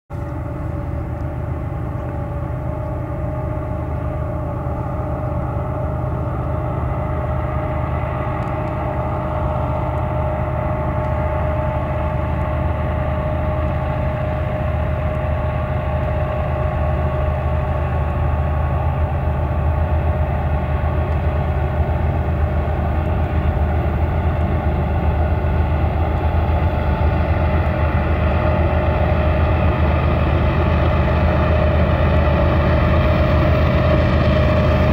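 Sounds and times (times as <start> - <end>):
diesel locomotive engine drone: 0.1 - 34.9
locomotive whine: 0.1 - 34.9.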